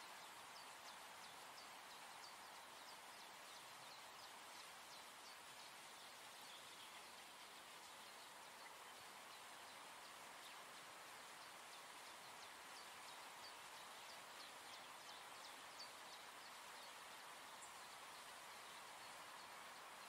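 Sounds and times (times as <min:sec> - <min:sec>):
soft even hiss: 0:00.0 - 0:20.0.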